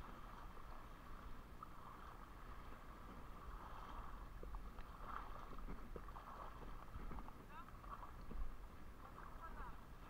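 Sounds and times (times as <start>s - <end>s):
small waves lapping over rocks: 0.0s - 9.8s.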